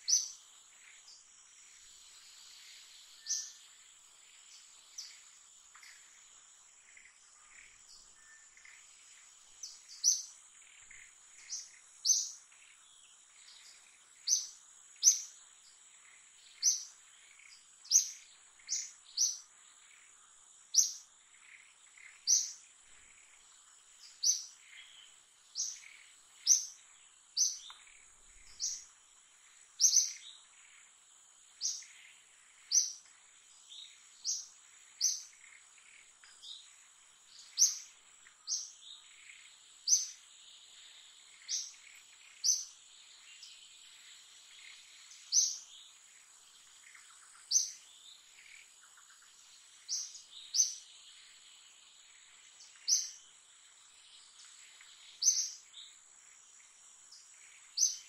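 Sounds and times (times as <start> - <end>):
insect drone: 0.0 - 58.0.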